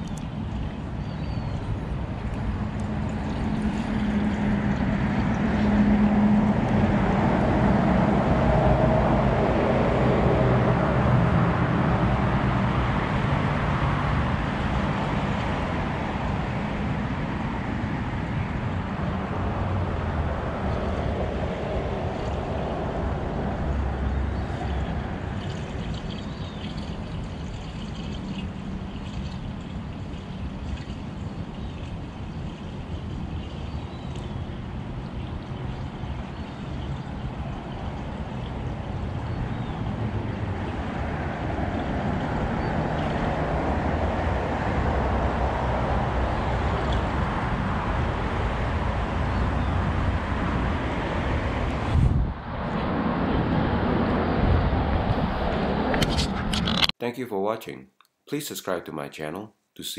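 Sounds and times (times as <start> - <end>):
water churning: 0.0 - 55.9
low motor hum: 0.0 - 56.6.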